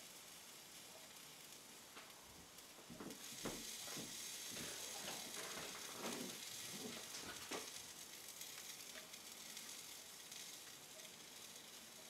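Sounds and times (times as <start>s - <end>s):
fish sizzling on a grill: 0.0s - 12.0s
small crackles: 0.0s - 12.0s.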